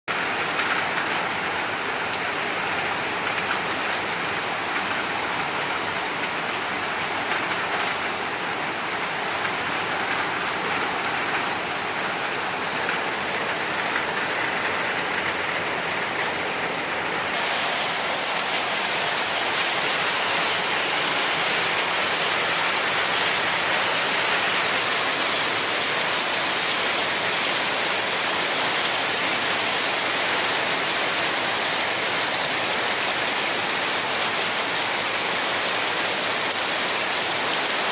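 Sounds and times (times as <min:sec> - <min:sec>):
steady rain falling: 0:00.1 - 0:37.9.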